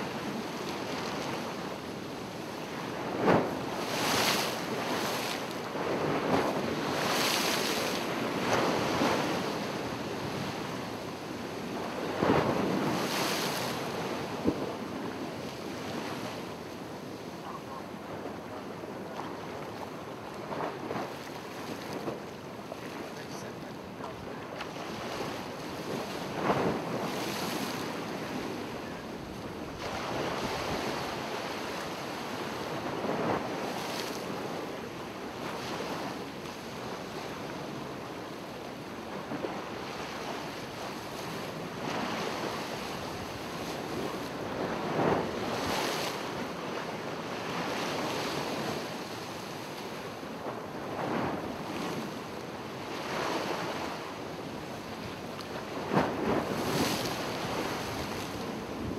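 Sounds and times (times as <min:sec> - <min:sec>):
ocean surf washing onto beach: 0:00.0 - 0:58.9.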